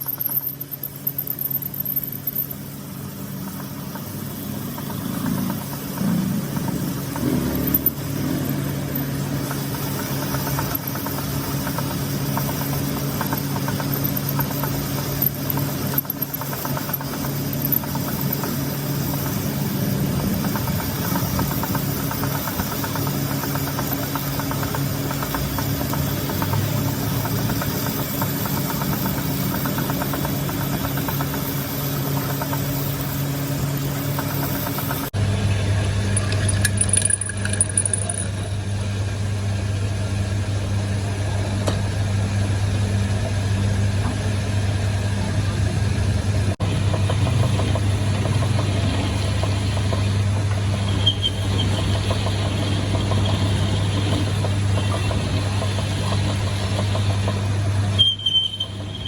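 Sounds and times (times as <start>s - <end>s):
machine motor humming: 0.0s - 58.0s.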